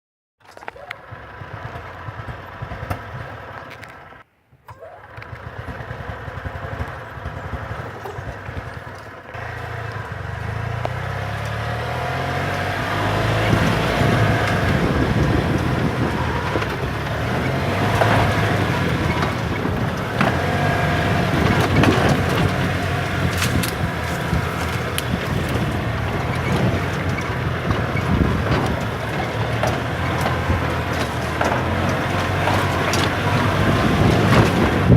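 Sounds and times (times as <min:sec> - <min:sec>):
knocks and rattles over ground: 0:00.4 - 0:34.9
golf cart engine running: 0:00.5 - 0:04.2, 0:04.8 - 0:34.9.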